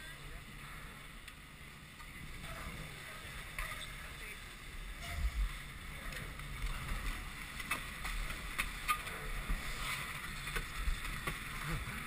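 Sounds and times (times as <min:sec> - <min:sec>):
chairlift low rumble: 0:00.0 - 0:12.0.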